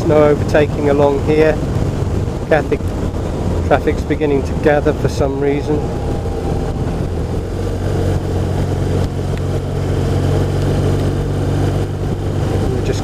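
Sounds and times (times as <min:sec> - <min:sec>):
motorcycle engine humming: 0:00.0 - 0:13.0
road and wind hiss: 0:00.0 - 0:13.0.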